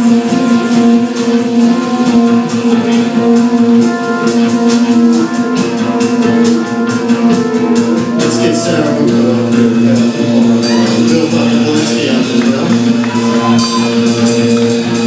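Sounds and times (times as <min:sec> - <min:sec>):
drum and cymbal hits: 0:00.0 - 0:15.0
live rock band playing: 0:00.0 - 0:15.0.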